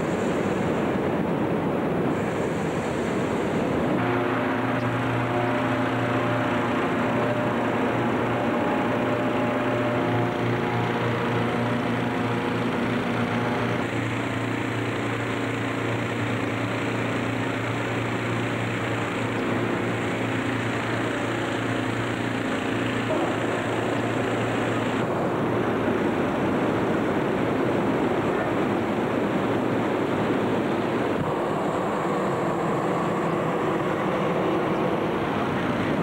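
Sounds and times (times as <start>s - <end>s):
inflator fan engines droning: 0.0s - 36.0s
rushing air noise: 0.0s - 36.0s.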